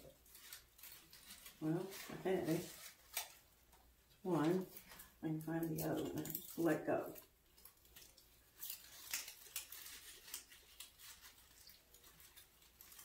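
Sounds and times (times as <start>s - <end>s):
ribbon and greenery crinkling: 0.0s - 13.0s.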